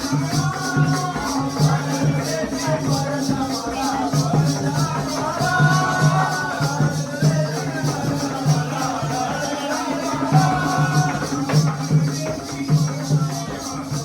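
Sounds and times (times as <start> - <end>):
jingling percussion: 0.0 - 14.0
person singing: 0.0 - 14.0
repeating drum beat: 0.0 - 14.0.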